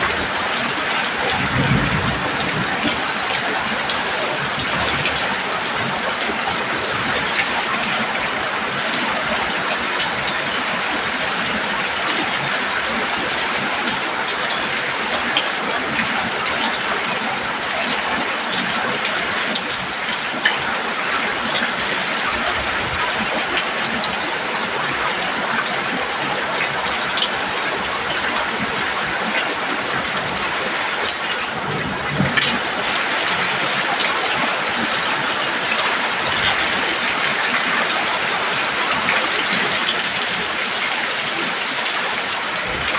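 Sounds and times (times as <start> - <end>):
heavy rain on a roof: 0.0 - 42.9.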